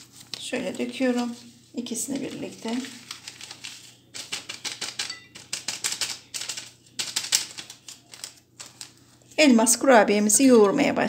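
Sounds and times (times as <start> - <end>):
paper sachets crinkling: 0.0 - 9.4.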